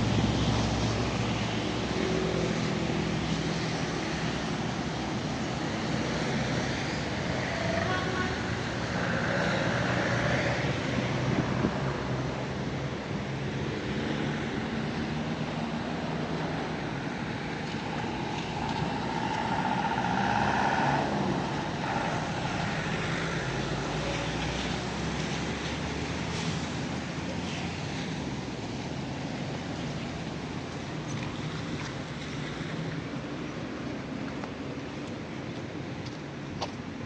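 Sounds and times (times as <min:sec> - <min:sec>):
motor vehicles passing: 0:00.0 - 0:37.0
road noise hiss: 0:00.0 - 0:37.0.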